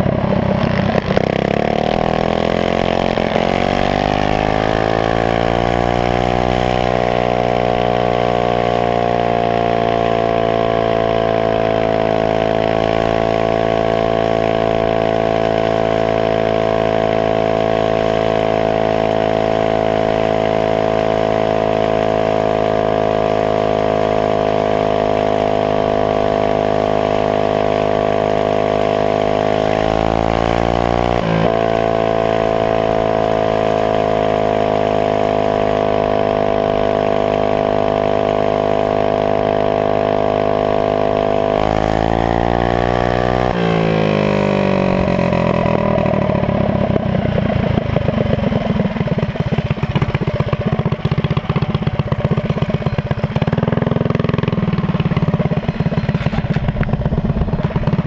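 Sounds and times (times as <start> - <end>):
minibike engine revving: 0.0 - 58.0.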